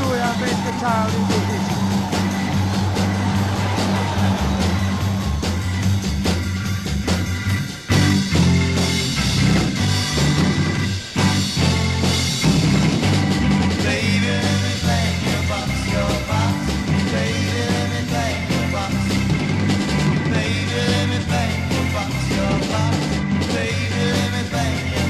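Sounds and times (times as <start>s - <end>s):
psychedelic rock band playing: 0.0s - 25.0s.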